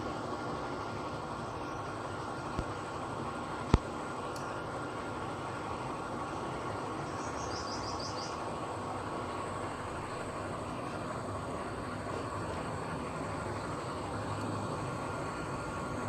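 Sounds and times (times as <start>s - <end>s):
air conditioner whirring: 0.0s - 16.0s.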